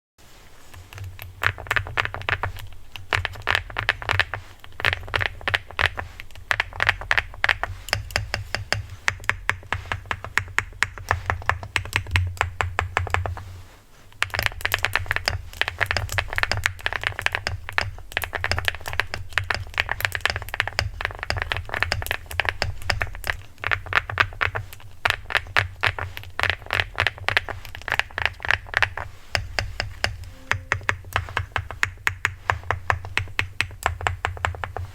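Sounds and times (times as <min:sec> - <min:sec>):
fast mechanical keyboard typing: 0:00.9 - 0:13.4, 0:14.2 - 0:34.9.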